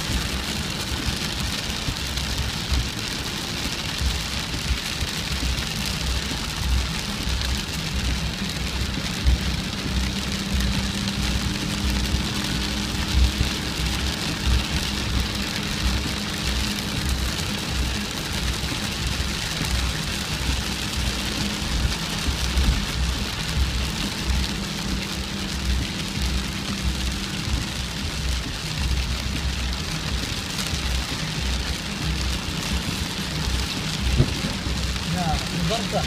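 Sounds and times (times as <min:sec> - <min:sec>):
heavy rain falling: 0:00.0 - 0:36.0
low rumble: 0:00.0 - 0:36.0.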